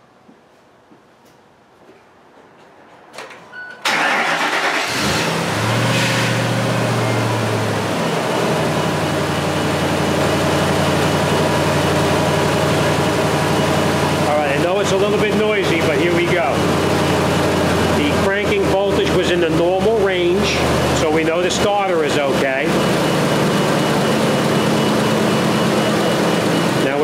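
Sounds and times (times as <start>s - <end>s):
engine running and idling: 3.9s - 27.0s.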